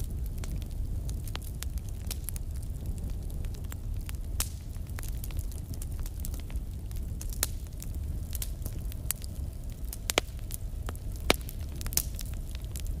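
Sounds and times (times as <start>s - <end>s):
fire crackling and popping: 0.0s - 13.0s
low rumble of flame: 0.0s - 13.0s.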